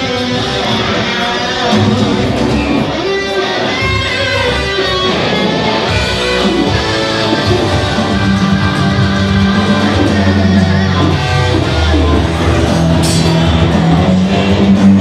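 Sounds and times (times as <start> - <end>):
loud rock music: 0.0 - 15.0
strummed electric guitar: 0.0 - 15.0.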